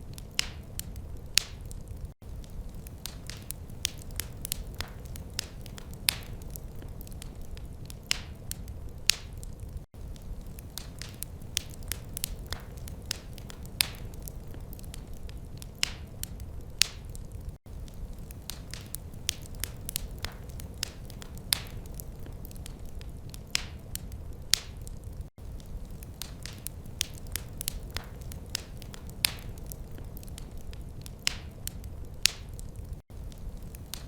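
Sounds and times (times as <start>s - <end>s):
fireplace fire crackling: 0.0s - 34.0s.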